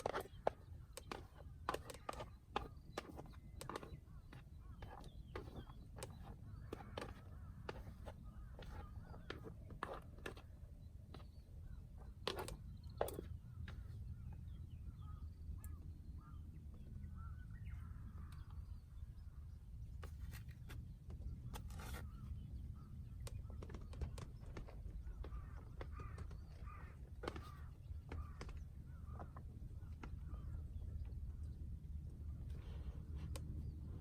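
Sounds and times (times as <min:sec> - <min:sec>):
birds harsh calls: 0:00.0 - 0:19.6, 0:20.3 - 0:31.6.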